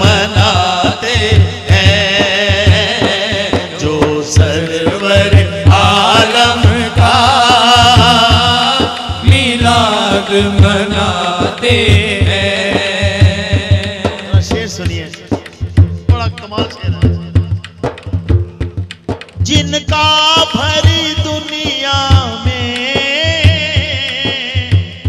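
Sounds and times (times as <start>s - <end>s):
men singing melismatic lines: 0.0s - 18.8s, 19.4s - 25.0s
frame drum beat: 0.0s - 25.0s.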